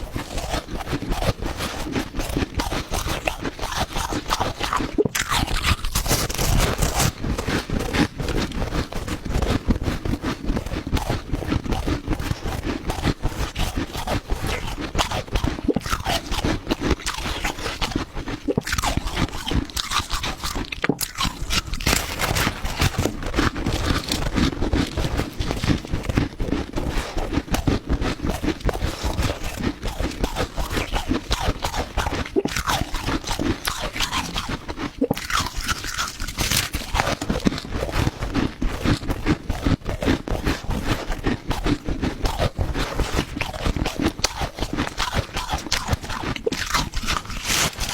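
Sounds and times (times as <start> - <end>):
ice crunching while chewed: 0.0 - 47.9.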